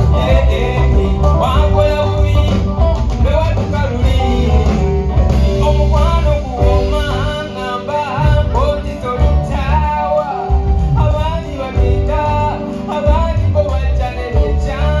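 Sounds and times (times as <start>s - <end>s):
drum kit: 0.0s - 15.0s
electric bass guitar: 0.0s - 15.0s
keyboard: 0.0s - 15.0s
man singing: 0.0s - 15.0s.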